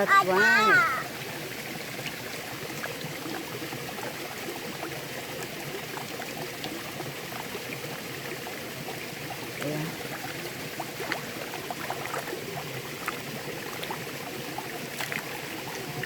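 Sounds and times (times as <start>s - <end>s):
stream water over stones: 0.0s - 16.0s.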